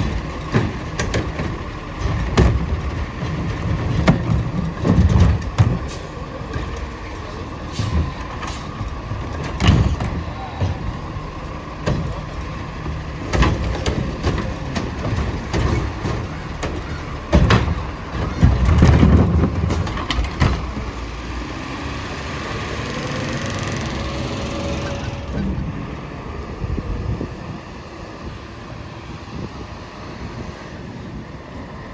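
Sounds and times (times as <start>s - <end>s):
garbage truck engine running: 0.0s - 31.9s.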